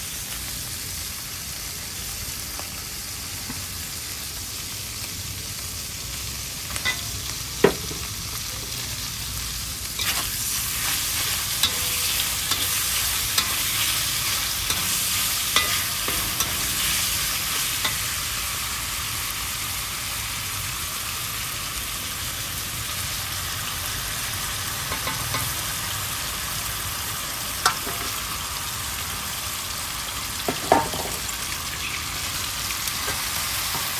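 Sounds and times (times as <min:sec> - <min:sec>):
vegetables sizzling in oil: 0:00.0 - 0:33.9.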